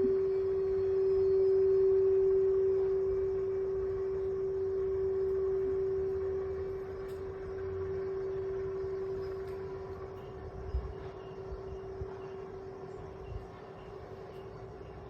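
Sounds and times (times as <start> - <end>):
temple bell ringing: 0.0 - 15.0.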